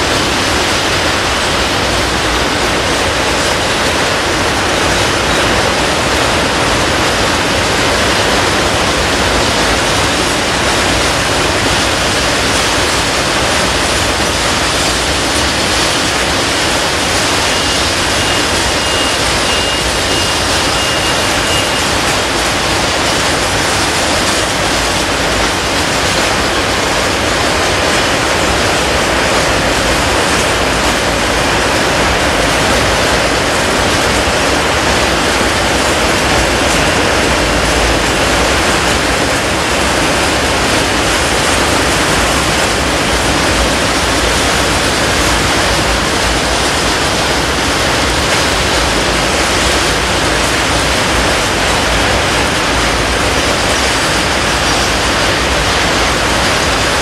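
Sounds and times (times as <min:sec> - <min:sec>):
steel wheels rushing on rails: 0:00.0 - 0:57.0.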